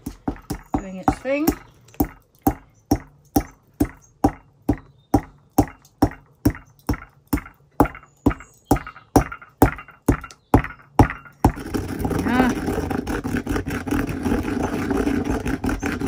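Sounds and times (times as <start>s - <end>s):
pestle pounding in a mortar: 0.0s - 16.0s.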